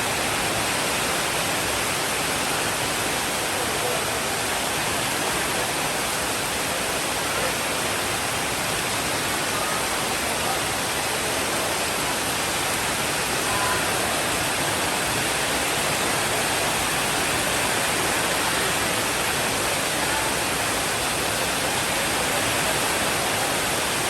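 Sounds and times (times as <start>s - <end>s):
steady rain hissing: 0.0s - 24.0s.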